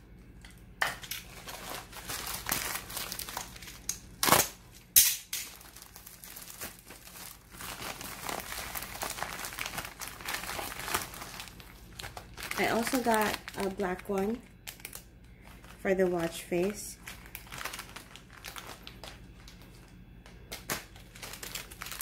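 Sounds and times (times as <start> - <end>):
plastic mailer crinkling: 1.2 - 4.6, 5.4 - 22.0.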